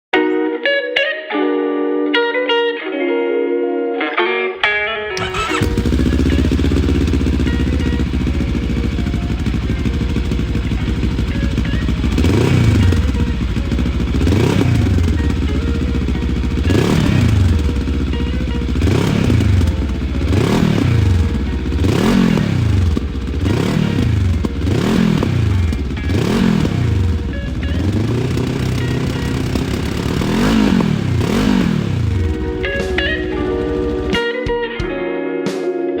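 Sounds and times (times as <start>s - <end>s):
motorcycle engine idling and revving: 5.1s - 34.2s.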